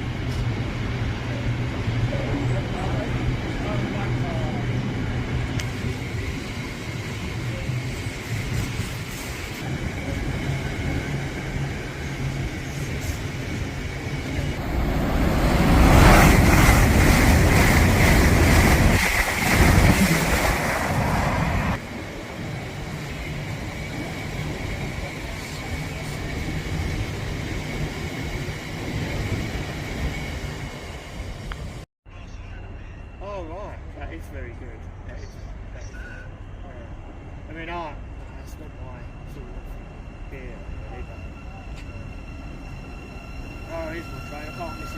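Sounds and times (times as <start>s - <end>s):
train passing with rush and clatter: 0.0s - 44.9s.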